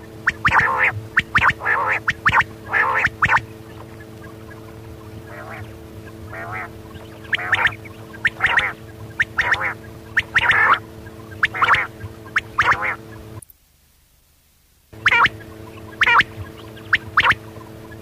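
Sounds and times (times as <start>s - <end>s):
quail calling: 0.0s - 13.3s, 15.0s - 18.0s
steady low hum: 0.0s - 18.0s.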